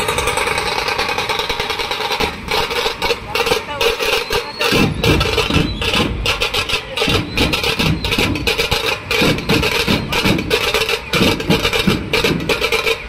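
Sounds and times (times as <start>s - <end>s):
barrel drums beating: 0.0s - 13.0s.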